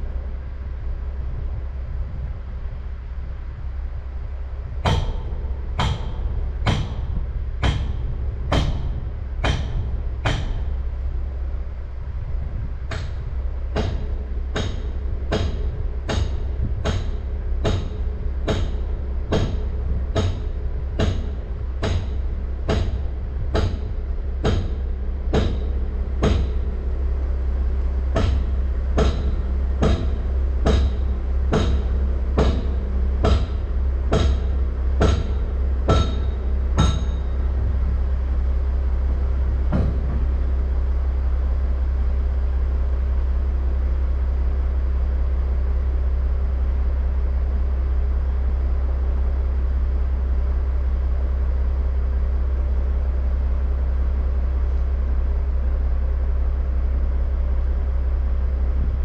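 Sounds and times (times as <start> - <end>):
truck engine idling: 2.8 - 59.0.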